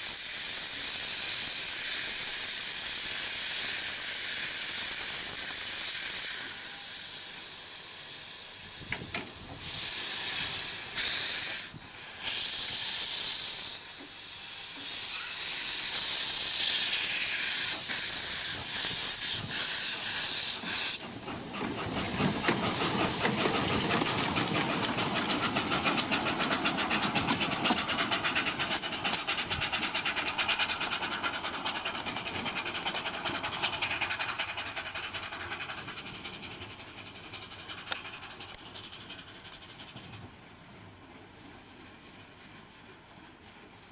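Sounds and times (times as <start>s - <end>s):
steam locomotive venting steam: 0.0s - 43.9s.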